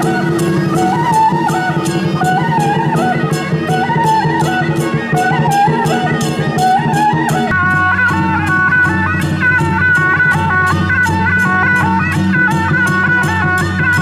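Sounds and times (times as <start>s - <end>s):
steady percussion beat: 0.0s - 14.0s
wind instrument melody: 0.0s - 14.0s.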